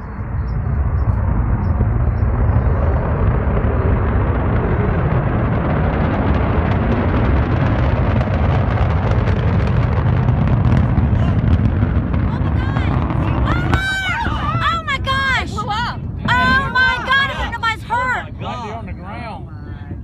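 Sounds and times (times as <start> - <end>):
rocket launch rumble: 0.0 - 19.3
crackling: 0.7 - 17.8.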